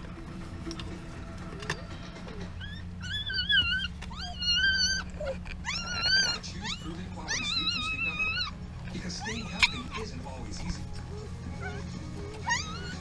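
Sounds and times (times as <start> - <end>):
steady low hum: 0.0 - 13.0
puppies crying: 1.4 - 13.0.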